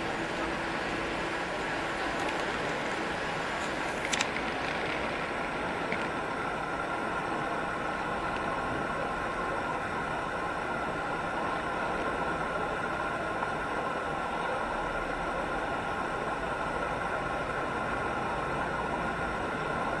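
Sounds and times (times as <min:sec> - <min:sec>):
steady traffic noise: 0:00.0 - 0:20.0.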